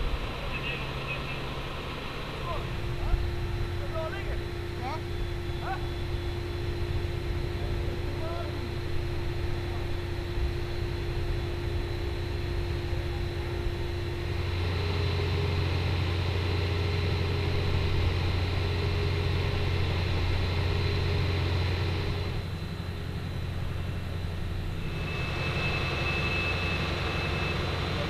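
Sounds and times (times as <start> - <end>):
fire engine droning: 0.0 - 28.0
thin steady whine: 0.0 - 28.0.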